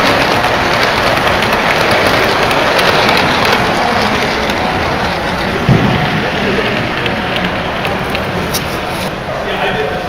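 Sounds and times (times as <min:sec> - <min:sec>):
model train wheels on rail: 0:00.0 - 0:10.0.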